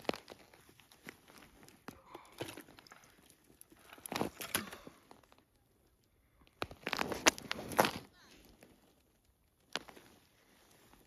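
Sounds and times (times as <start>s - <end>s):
rustles of gloves and clothing: 0.0s - 11.0s.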